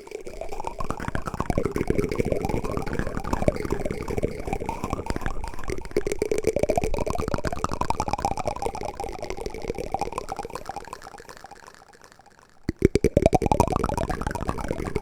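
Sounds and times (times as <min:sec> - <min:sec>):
watery bubbling crackle: 0:00.0 - 0:15.0.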